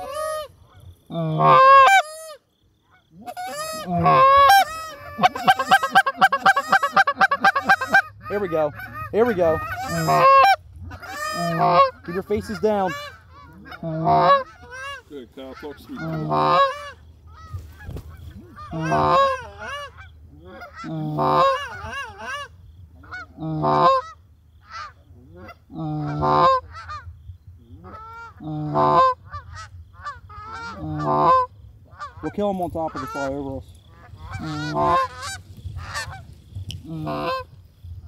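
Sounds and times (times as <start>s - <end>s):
goose call clucks: 0.0s - 27.1s, 27.8s - 37.5s
goose call honks: 0.0s - 27.1s, 27.7s - 37.5s.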